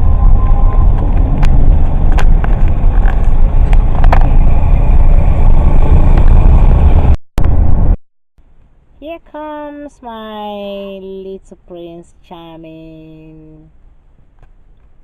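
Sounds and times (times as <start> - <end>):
vehicle road and wind noise: 0.0 - 15.0.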